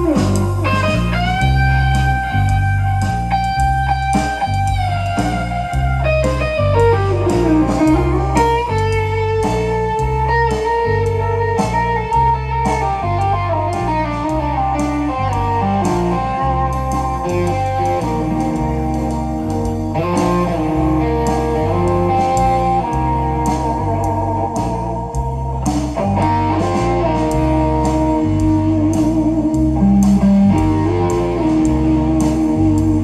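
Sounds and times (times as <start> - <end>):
bass guitar: 0.0 - 33.0
drums: 0.0 - 33.0
electric guitar solo: 0.0 - 33.0.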